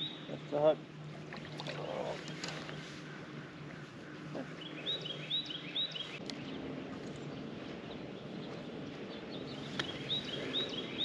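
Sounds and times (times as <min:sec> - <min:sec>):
bird chirping: 0:00.0 - 0:00.6, 0:01.8 - 0:11.0.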